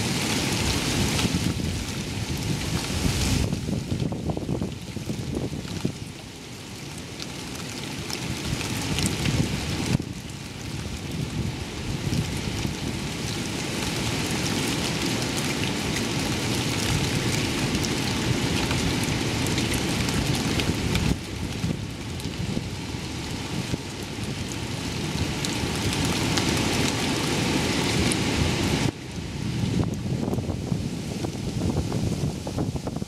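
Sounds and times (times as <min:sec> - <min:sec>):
low wind rumble: 0:00.0 - 0:06.2, 0:08.3 - 0:33.0
heavy rain on paving and metal: 0:00.0 - 0:33.0.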